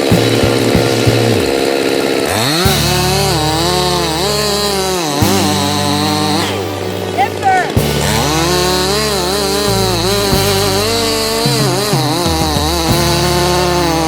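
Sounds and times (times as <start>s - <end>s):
chainsaw running and revving: 0.0s - 14.0s.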